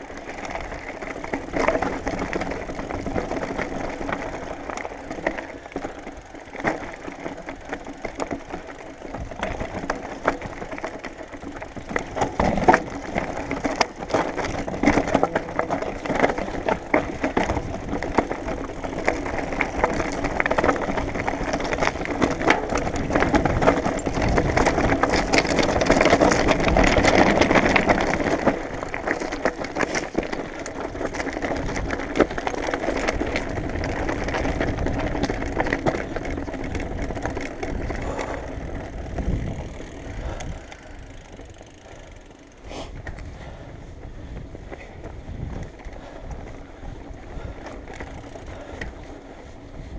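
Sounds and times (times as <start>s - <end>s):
bike rattling and knocking: 0.0s - 49.9s
bike tyres crunching over gravel: 0.0s - 49.9s.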